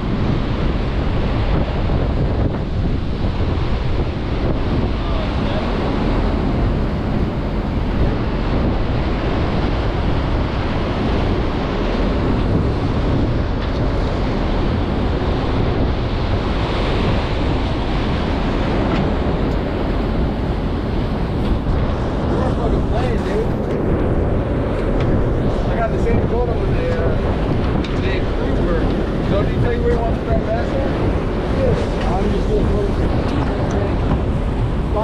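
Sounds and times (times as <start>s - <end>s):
boat engine drone: 0.0s - 35.0s
water wash: 0.0s - 35.0s
wind rumbling on microphone: 0.0s - 35.0s.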